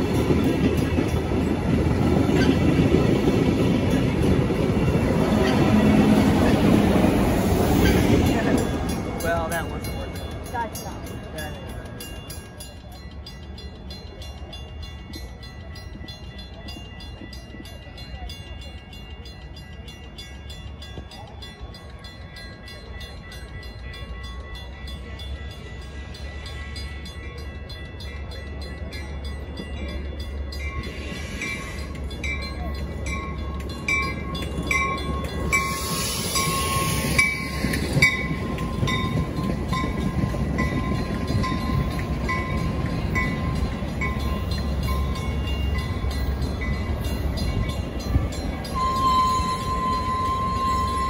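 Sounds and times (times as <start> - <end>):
train rumbling past: 0.0 - 51.0
wheels clicking over rail joints: 0.0 - 51.0.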